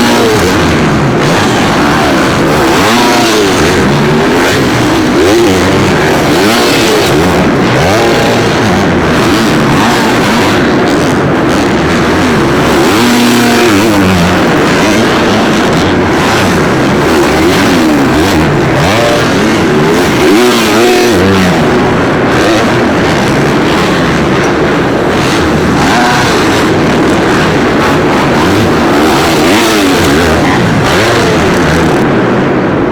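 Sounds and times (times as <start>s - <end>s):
dirt bikes revving: 0.0s - 32.9s.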